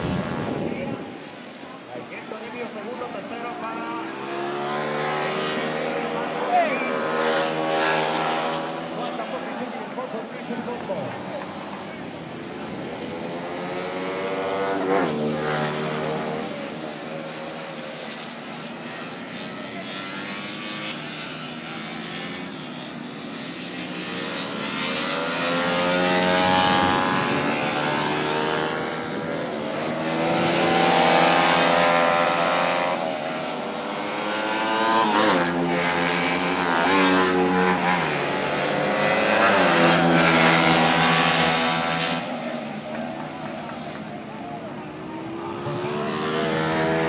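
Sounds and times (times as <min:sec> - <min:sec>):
racing motorcycles passing: 0:00.0 - 0:47.0.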